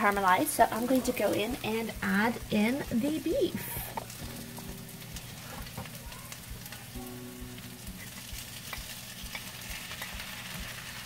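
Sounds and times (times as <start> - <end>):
onions frying in hot oil: 0.0 - 11.0.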